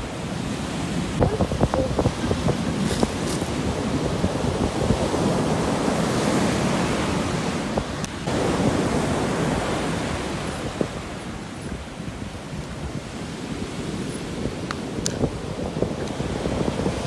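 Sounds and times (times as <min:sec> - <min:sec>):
sea waves washing on shore: 0:00.0 - 0:17.0.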